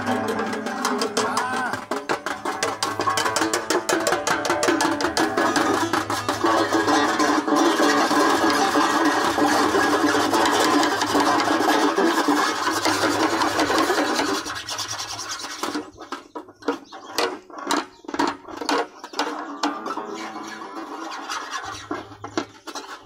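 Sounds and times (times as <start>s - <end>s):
banjo strings scraped with antler: 0.0s - 23.0s.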